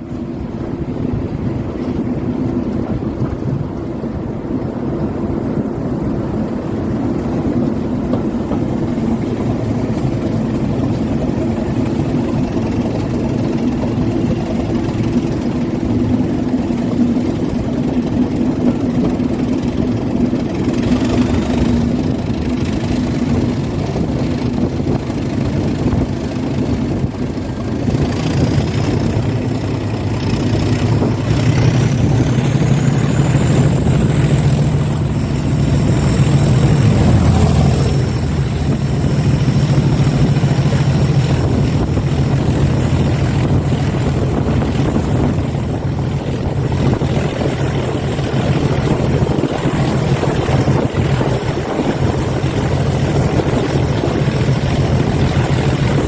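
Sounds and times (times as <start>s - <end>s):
locomotive engine humming: 0.0s - 56.0s.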